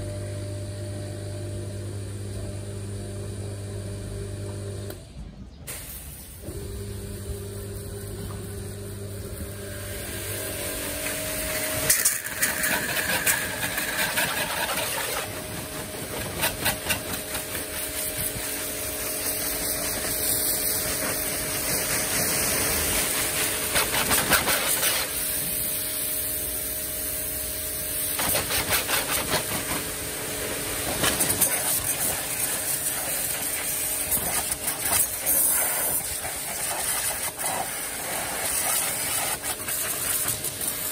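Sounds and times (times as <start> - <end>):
pressure washer motor hum: 6.4 - 40.9
water spray hissing: 7.8 - 40.9.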